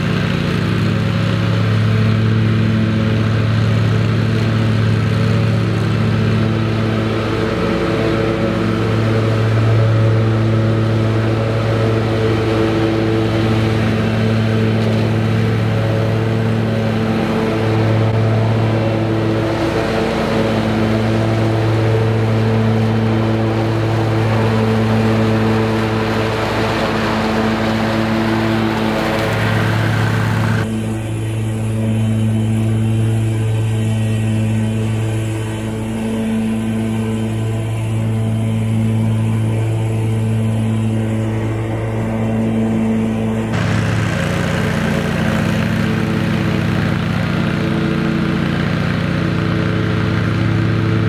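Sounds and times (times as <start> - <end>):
mower engine running: 0.0 - 51.0.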